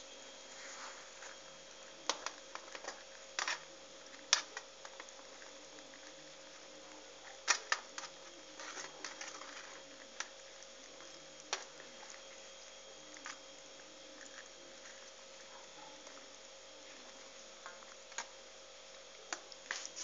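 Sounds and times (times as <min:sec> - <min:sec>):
soft rustling of leaves: 0:00.0 - 0:20.0.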